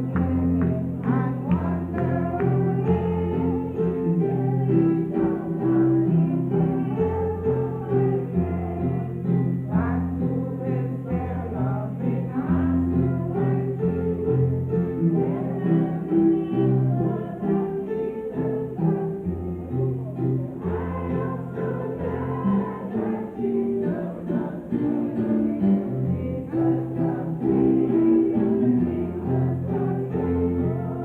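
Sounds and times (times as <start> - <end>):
gospel singing with accompaniment: 0.0 - 31.0.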